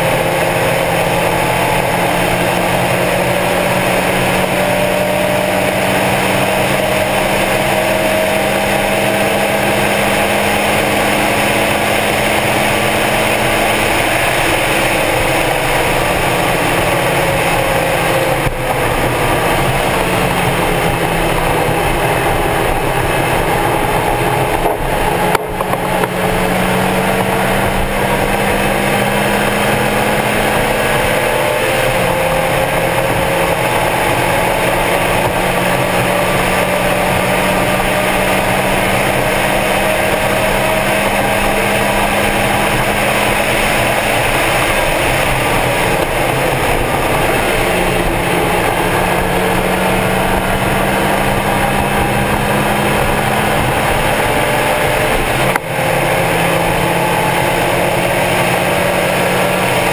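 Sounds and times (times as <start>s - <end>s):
car engine running under load: 0.0s - 59.9s.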